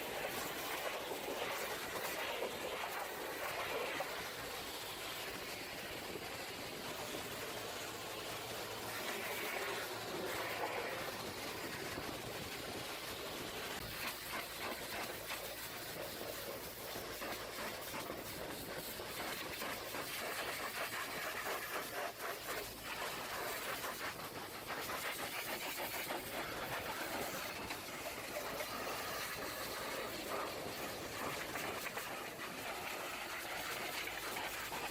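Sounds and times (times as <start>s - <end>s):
pressure washer spraying: 0.0s - 34.9s.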